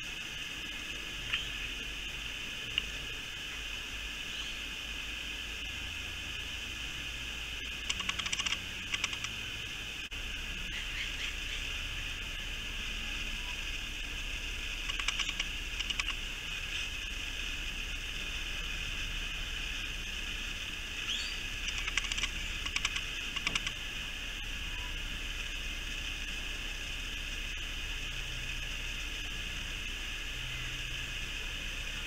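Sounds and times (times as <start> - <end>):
steady high hiss: 0.0 - 32.0.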